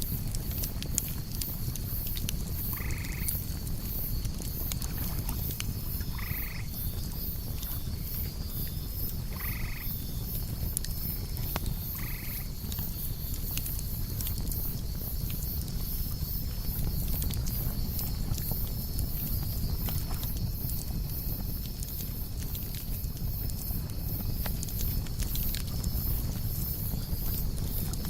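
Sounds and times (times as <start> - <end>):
campfire rumble and crackles: 0.0 - 28.0
crickets chirring: 0.0 - 28.0.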